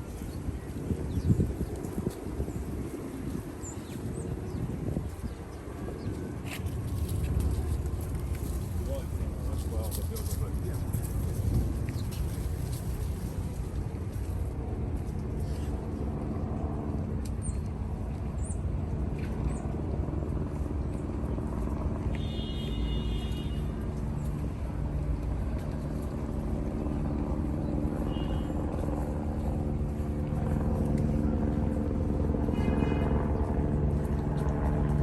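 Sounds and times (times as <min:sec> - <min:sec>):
engine drone: 0:06.1 - 0:35.0.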